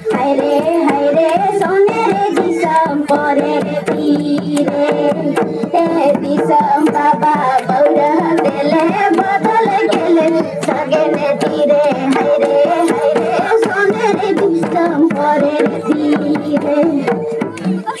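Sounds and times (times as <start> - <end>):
hand-played barrel drum: 0.0 - 18.0
voices singing: 0.0 - 18.0.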